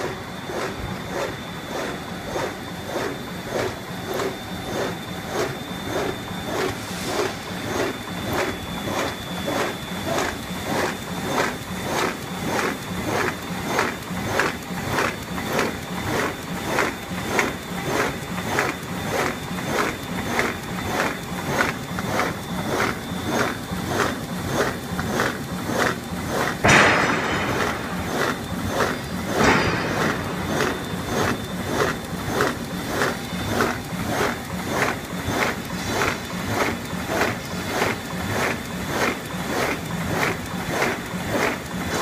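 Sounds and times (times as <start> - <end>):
bag-making machine stamping: 0.0 - 42.0
steady high whine: 0.0 - 42.0.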